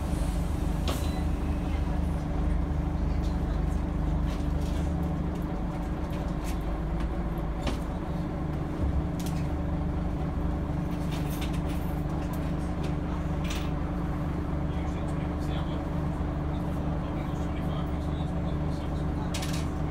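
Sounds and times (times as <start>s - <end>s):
bus diesel engine idling: 0.0s - 19.9s.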